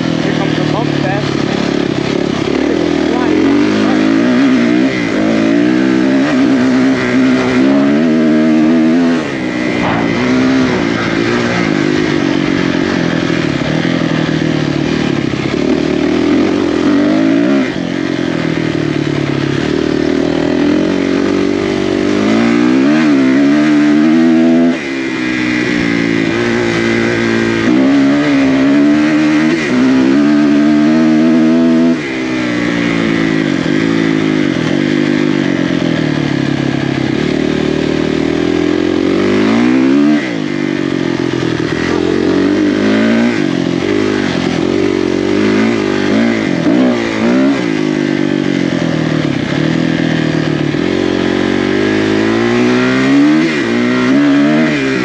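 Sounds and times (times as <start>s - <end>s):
off-road motorcycle engine revving: 0.0s - 55.0s.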